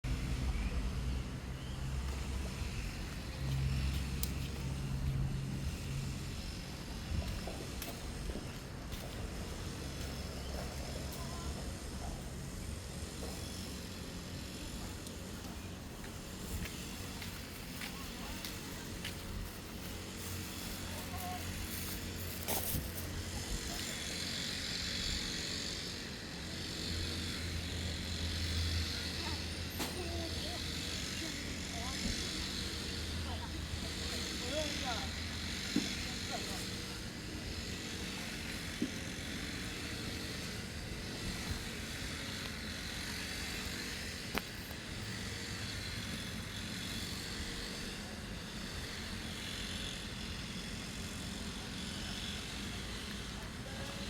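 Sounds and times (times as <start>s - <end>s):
lawn mower engine running: 0.1s - 54.0s.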